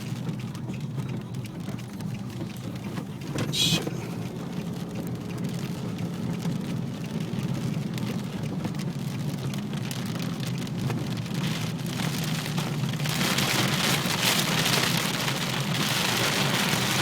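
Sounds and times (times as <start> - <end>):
car low rumble: 0.0 - 17.0
rain pattering on a car: 0.0 - 17.0.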